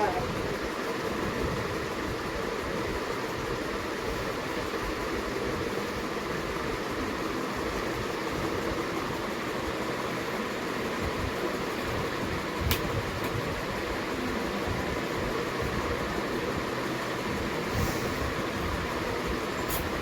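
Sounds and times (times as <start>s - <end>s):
mechanical whirring with hiss: 0.0s - 20.0s.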